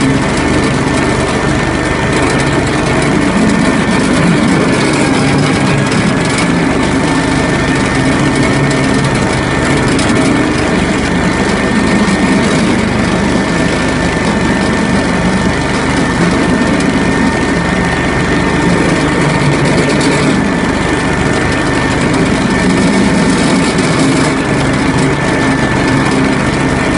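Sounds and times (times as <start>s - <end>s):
log splitter cone splitting logs: 0.0s - 26.9s
two-stroke engine with high whine: 0.0s - 26.9s.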